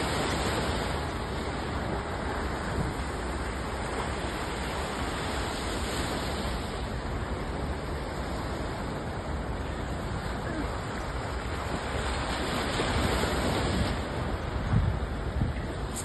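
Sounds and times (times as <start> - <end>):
small waves washing up beach: 0.0 - 16.0
wind rumble on microphone: 0.0 - 16.0.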